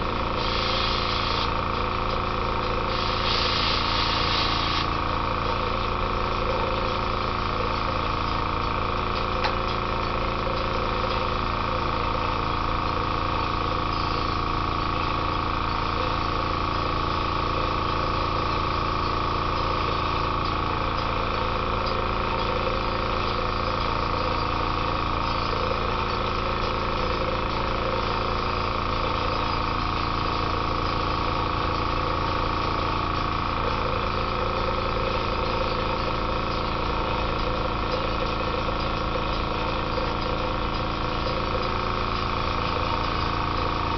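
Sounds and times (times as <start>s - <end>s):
air compressor motor hum: 0.0s - 43.9s.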